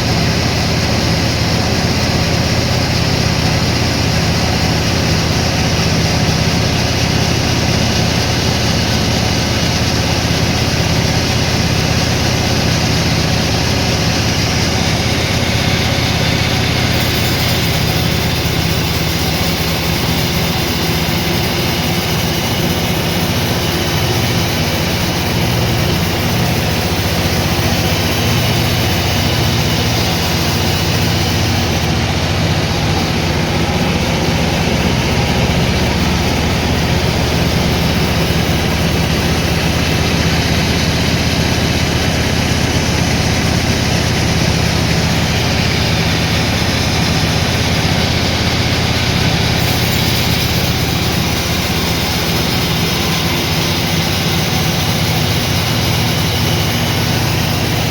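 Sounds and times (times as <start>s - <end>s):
low engine drone: 0.0s - 57.9s
sawmill machinery running: 0.0s - 57.9s.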